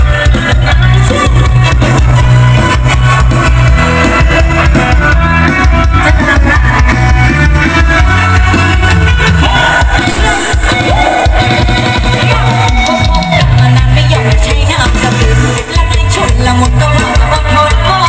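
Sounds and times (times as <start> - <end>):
rock music through loudspeakers: 0.0 - 18.0.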